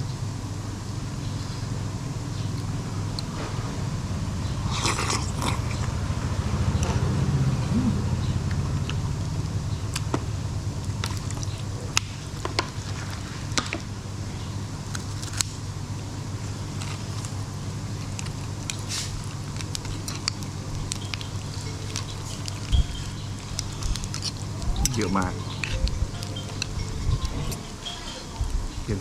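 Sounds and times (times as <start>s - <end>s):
steady low hum: 0.0s - 29.0s
soft chewing: 4.5s - 28.8s.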